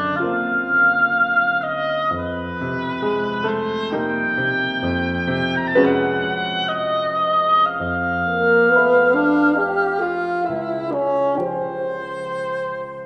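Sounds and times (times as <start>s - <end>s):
oboe bassoon and piano chamber music: 0.0s - 13.0s.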